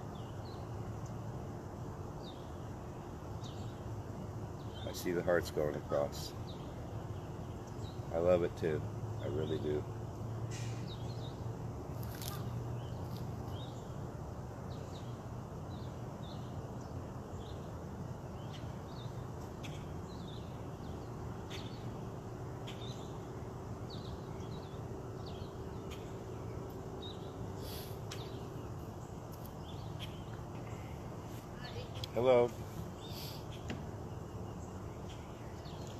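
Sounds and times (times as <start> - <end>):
road traffic rumble: 0.0 - 35.9
songbirds chirping: 0.0 - 35.9.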